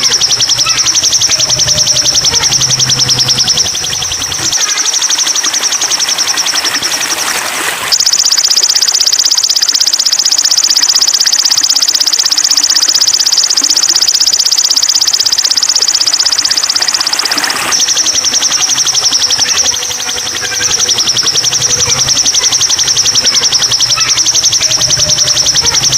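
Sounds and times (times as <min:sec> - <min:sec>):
high-pitched buzzing trill: 0:00.0 - 0:25.9.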